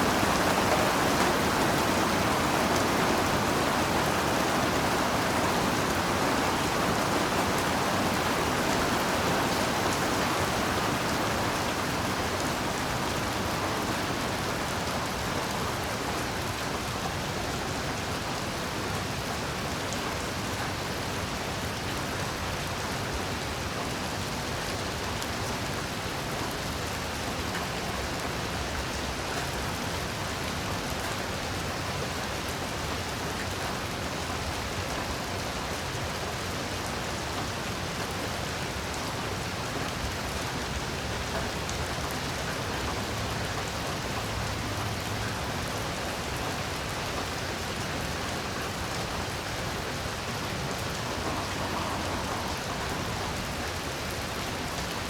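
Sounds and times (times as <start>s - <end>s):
heavy rain on surfaces: 0.0s - 55.0s.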